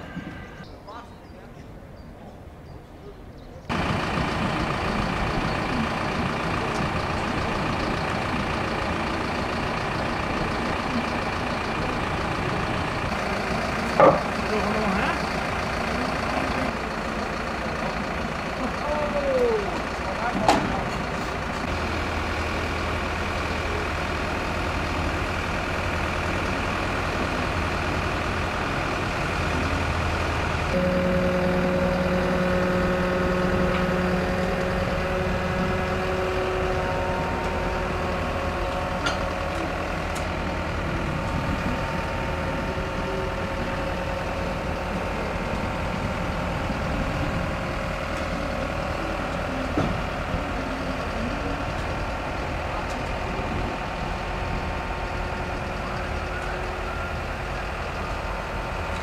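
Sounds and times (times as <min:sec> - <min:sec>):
heavy diesel crane engine: 0:03.7 - 0:59.0.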